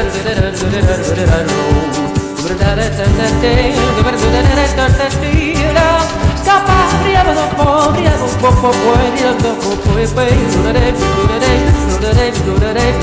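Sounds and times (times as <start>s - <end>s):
layered wordless vocals: 0.0s - 13.0s
steady beat: 0.0s - 13.0s.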